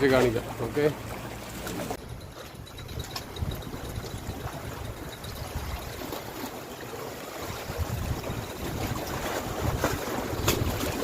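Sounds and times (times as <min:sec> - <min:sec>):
calm waves lapping at shore: 0:00.0 - 0:11.0.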